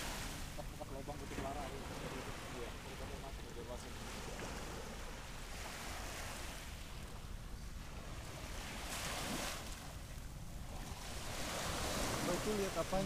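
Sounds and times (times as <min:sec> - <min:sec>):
surf washing on beach: 0:00.0 - 0:13.0
wind rumbling on microphone: 0:00.0 - 0:13.0.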